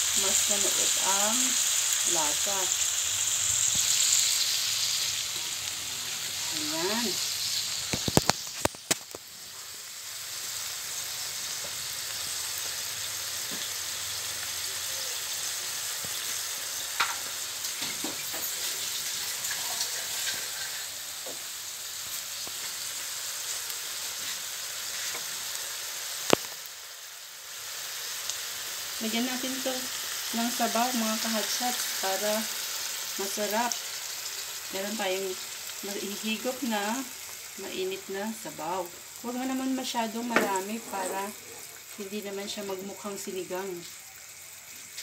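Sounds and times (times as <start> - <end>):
vegetables sizzling in a wok: 0.0 - 45.0.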